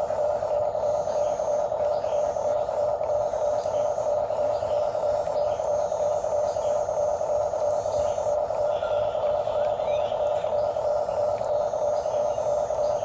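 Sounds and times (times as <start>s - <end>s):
electric motors whirring: 0.0s - 13.0s.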